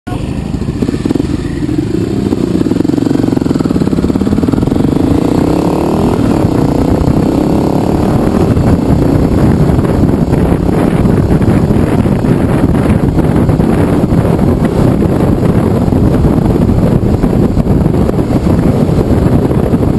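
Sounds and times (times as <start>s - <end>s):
motorcycle engine accelerating: 0.1s - 19.9s
wind noise on microphone: 0.1s - 19.9s.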